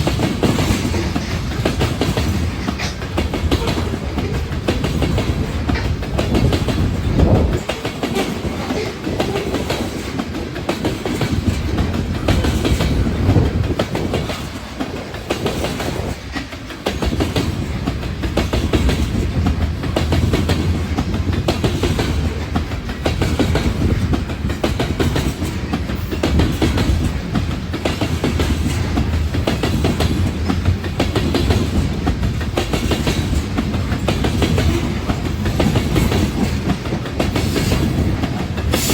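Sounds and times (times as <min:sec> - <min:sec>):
train rumble: 0:00.0 - 0:38.9
train wheels clickety-clack: 0:00.0 - 0:38.9.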